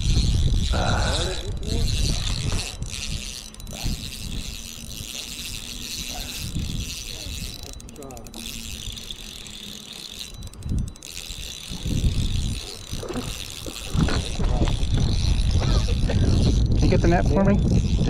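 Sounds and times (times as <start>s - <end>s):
fishing reel gears clicking: 0.0s - 18.0s.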